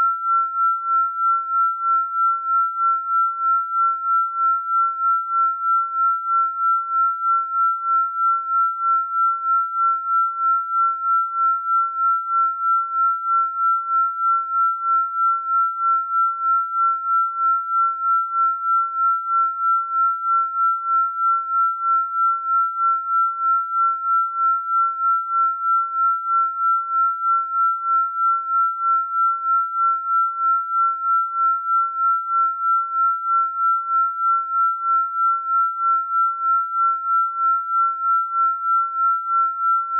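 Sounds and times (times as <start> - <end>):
pulsing high sine tone: 0.0 - 39.9.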